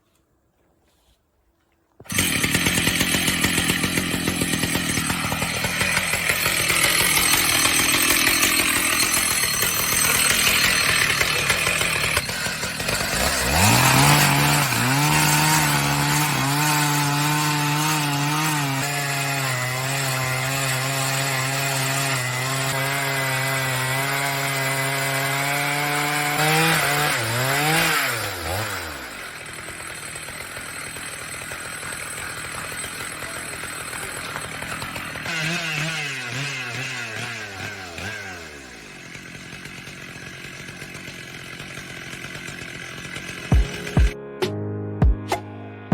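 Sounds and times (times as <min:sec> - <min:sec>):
chainsaw cutting wood: 0:02.0 - 0:44.2.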